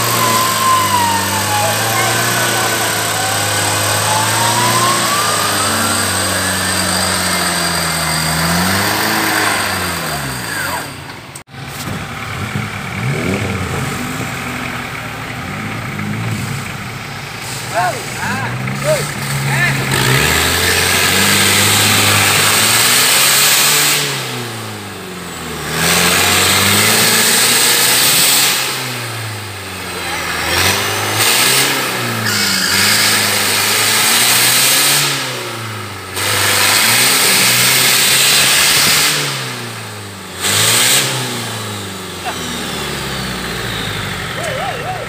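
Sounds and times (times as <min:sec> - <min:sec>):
buggy engine revving: 0:00.0 - 0:45.0.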